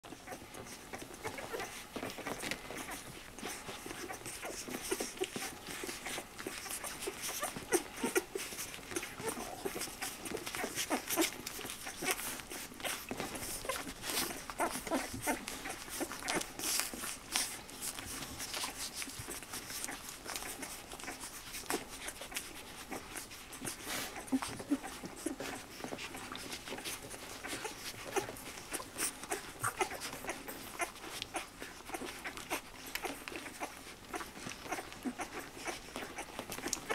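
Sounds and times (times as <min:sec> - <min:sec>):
puppies suckling clicks: 0:00.0 - 0:36.9
puppies squeaking and whimpering: 0:00.1 - 0:36.9.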